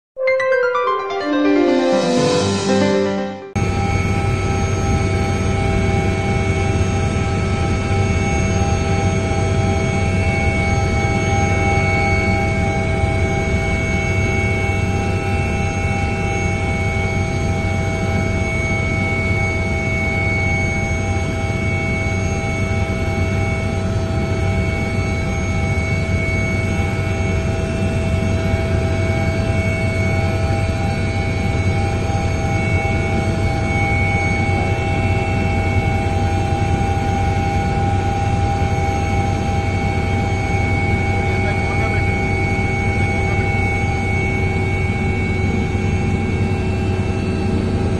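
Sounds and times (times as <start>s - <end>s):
helicopter turbine engine whine: 3.5s - 47.9s.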